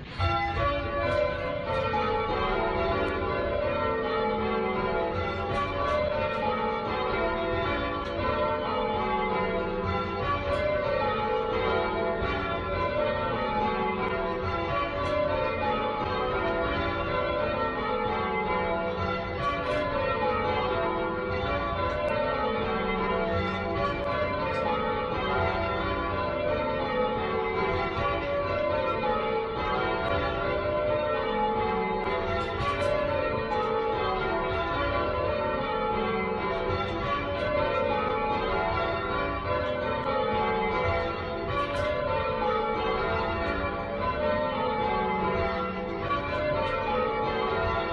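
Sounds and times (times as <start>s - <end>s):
church bells change ringing: 0.0s - 47.9s.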